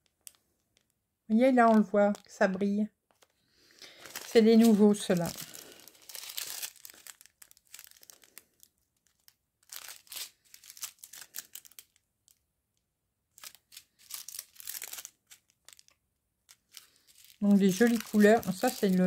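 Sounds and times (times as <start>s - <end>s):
plastic bags crinkling: 0.0s - 12.4s, 13.3s - 19.0s.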